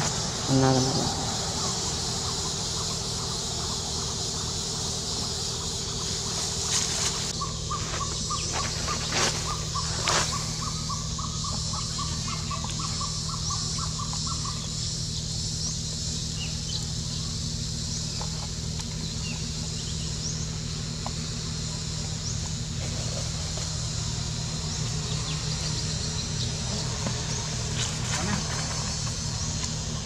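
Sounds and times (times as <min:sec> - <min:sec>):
low hum: 0:00.0 - 0:30.0
steady high drone: 0:00.0 - 0:30.0.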